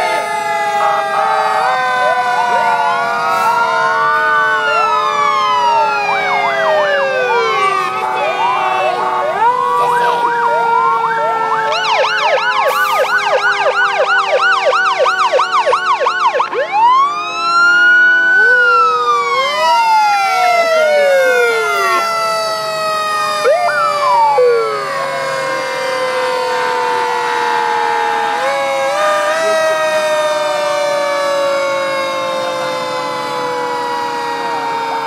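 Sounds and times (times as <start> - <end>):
fire engine sirens: 0.0 - 35.0.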